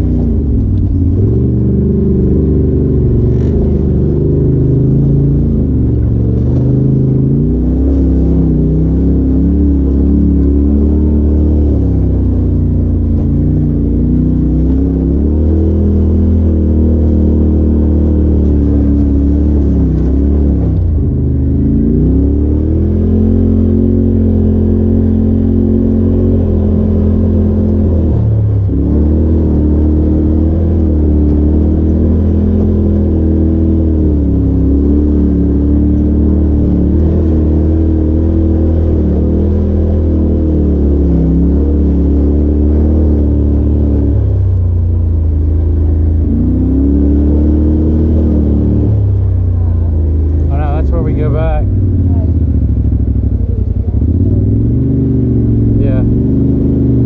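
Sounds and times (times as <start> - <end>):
turbocharged engine running: 0.0 - 57.0.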